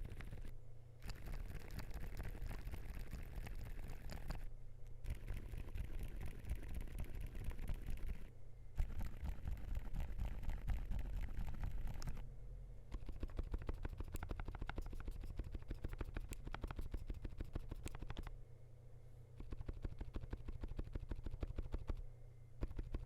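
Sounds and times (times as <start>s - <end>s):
fast typing on mechanical keyboard: 0.0s - 4.4s, 5.0s - 12.2s, 12.9s - 18.3s, 19.4s - 22.0s, 22.6s - 23.0s.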